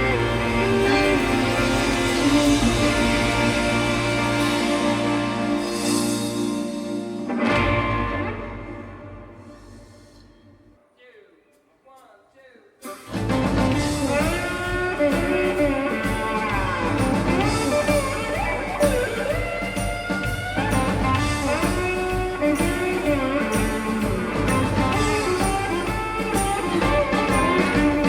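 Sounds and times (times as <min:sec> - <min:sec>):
blues-rock band: 0:00.0 - 0:10.0, 0:12.8 - 0:28.0
electric lead guitar bending notes: 0:00.0 - 0:10.0, 0:13.0 - 0:28.0.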